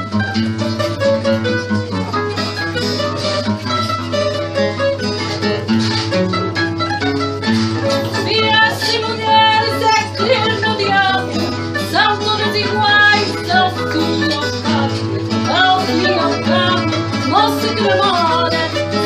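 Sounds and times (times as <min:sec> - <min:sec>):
bright guitar playing quick runs: 0:00.0 - 0:19.0
classical guitar accompaniment: 0:00.0 - 0:19.0.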